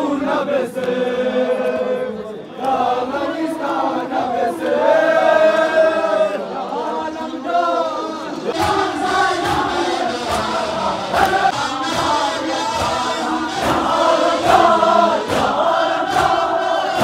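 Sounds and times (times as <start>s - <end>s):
men chanting in unison: 0.0s - 17.0s.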